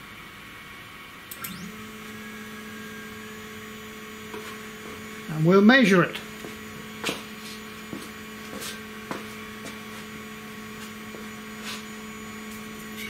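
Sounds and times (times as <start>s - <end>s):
stepper motor whine: 1.3s - 13.0s.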